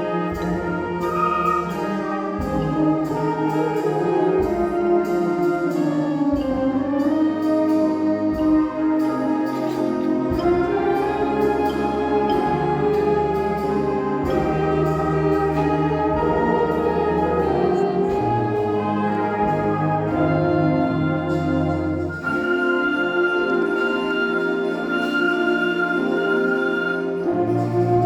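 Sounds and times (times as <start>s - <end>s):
symphonic band playing: 0.0s - 28.0s.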